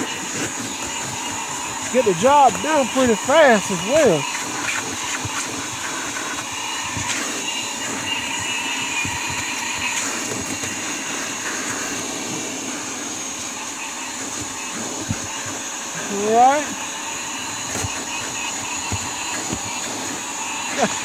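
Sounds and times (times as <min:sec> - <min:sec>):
shop vacuum motor whine: 0:00.0 - 0:21.0.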